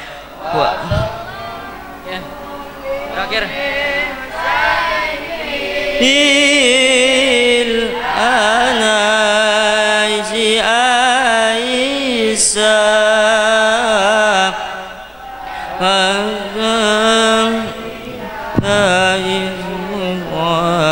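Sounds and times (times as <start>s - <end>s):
solo voice devotional chant: 0.0s - 20.9s.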